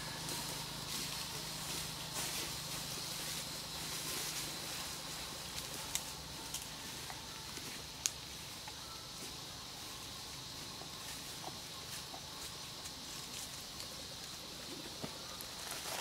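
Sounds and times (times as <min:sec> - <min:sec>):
dry leaves rustling: 0:00.0 - 0:16.0
faint high insect-like tone: 0:00.0 - 0:16.0
steady low hum: 0:00.0 - 0:16.0.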